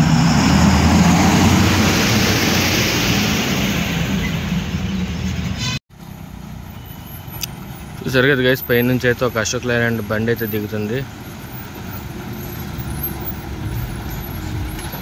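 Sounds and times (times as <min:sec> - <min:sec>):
diesel truck passing: 0:00.0 - 0:15.0
quieter vehicle noise: 0:00.0 - 0:15.0.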